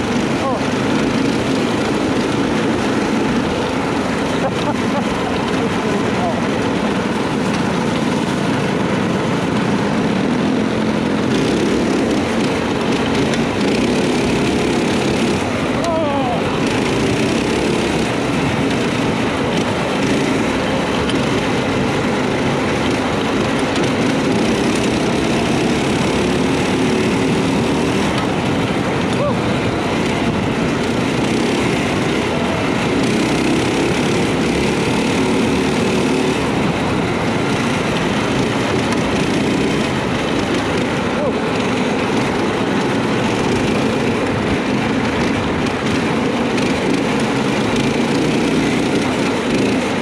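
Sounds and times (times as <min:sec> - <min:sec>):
go-kart engines running: 0:00.0 - 0:50.0.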